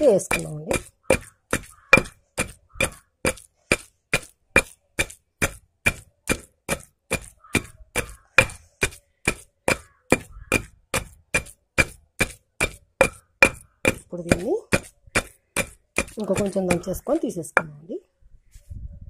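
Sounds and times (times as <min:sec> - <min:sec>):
pestle pounding in stone mortar: 0:00.0 - 0:17.9.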